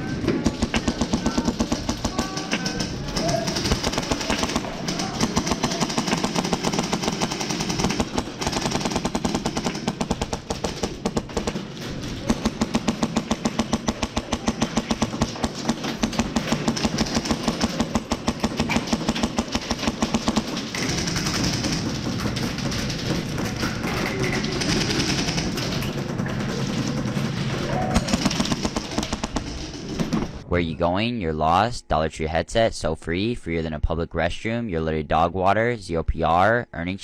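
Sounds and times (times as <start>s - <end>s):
airsoft guns firing bursts: 0.0s - 30.4s.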